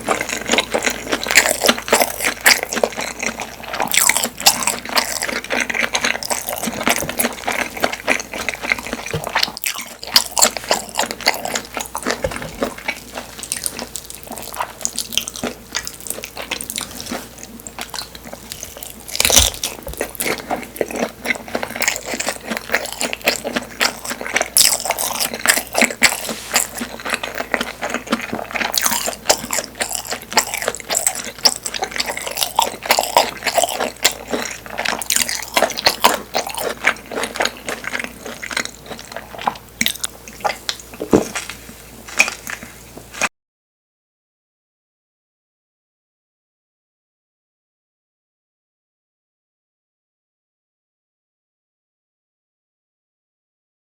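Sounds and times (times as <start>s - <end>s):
close chewing and wet mouth sounds: 0.0s - 43.3s.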